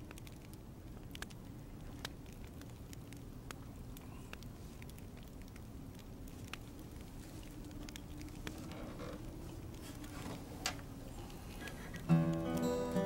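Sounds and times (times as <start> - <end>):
low steady hum: 0.0 - 13.0
small fire crackling and popping: 0.0 - 13.0.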